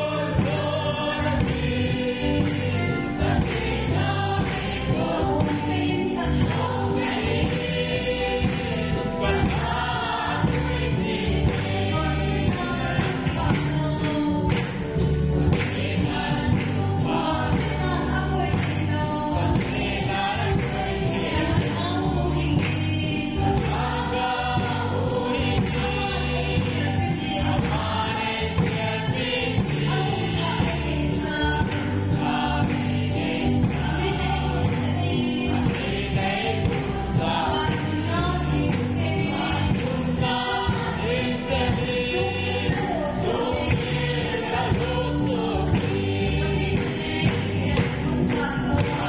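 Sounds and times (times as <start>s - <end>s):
congregation singing gospel: 0.0s - 49.0s
instrumental backing with bass: 0.0s - 49.0s
people clapping along: 0.0s - 49.0s.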